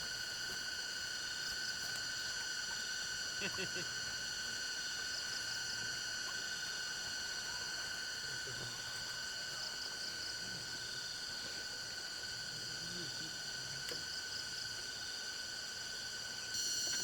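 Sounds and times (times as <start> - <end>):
insect trilling chorus: 0.0 - 17.0.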